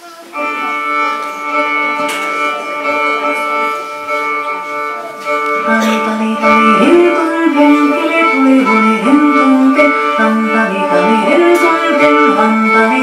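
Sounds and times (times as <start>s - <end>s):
instrumental music over stereo: 0.0s - 13.0s.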